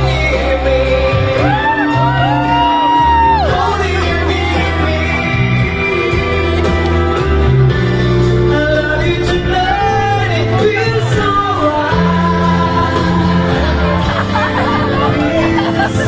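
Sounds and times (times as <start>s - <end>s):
man singing into microphone: 0.0s - 7.2s, 7.9s - 16.0s
instrumental backing music: 0.0s - 16.0s.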